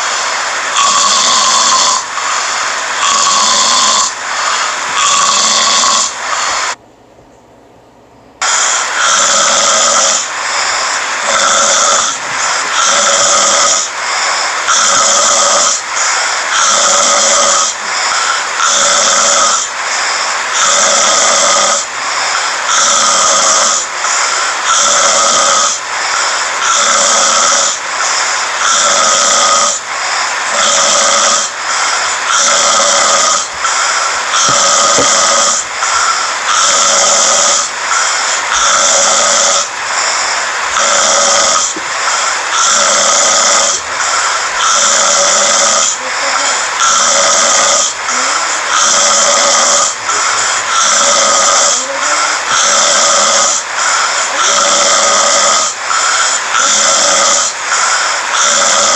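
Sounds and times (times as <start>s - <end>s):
man snoring: 0.0s - 6.8s, 8.4s - 58.9s.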